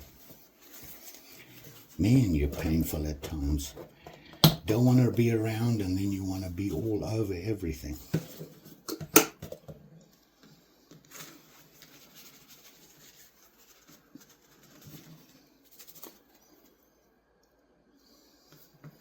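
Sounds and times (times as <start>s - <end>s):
handling and rubbing of small objects: 0.0s - 8.9s, 10.1s - 17.0s.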